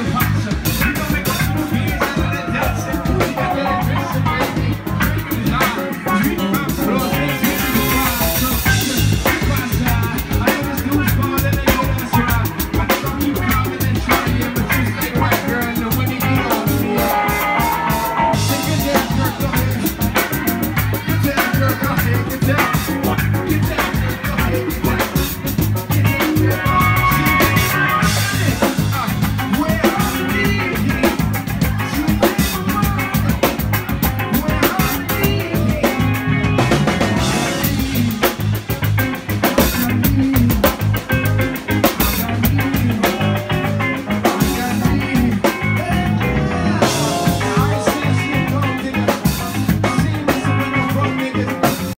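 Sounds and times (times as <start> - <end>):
drum kit steady beat: 0.0 - 52.0
electric guitar: 0.0 - 52.0
person singing: 0.0 - 52.0.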